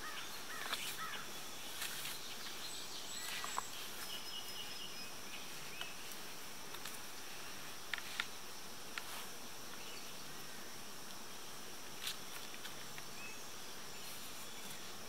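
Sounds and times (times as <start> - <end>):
insect drone: 0.0 - 15.0.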